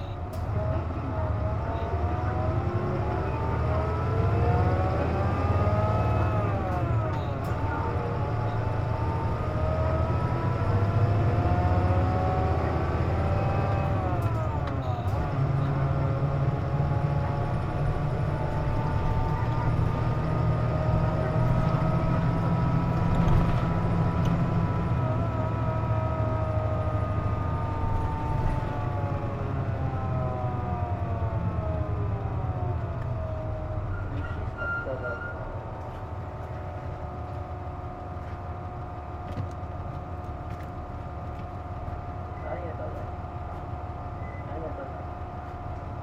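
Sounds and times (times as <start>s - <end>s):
bus engine rumble: 0.0s - 46.0s.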